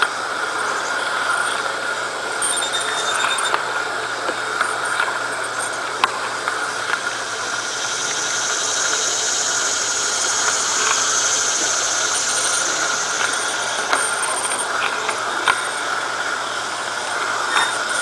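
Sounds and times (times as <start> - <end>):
model streetcar motor squeal and hiss: 0.6 - 5.7, 6.6 - 18.0.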